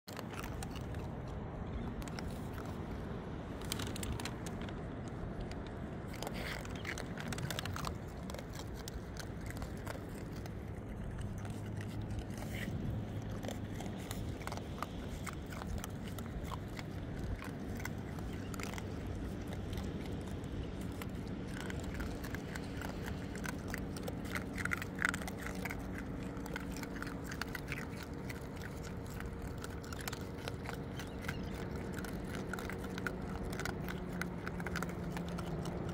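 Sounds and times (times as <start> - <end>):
low background rumble: 0.1 - 35.9
raccoons crunching dry kibble: 0.1 - 35.9.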